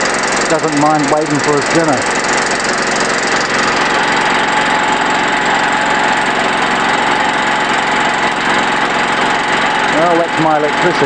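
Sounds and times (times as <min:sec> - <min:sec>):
high engine whine: 0:00.0 - 0:11.0
small generator engine running: 0:00.0 - 0:11.0.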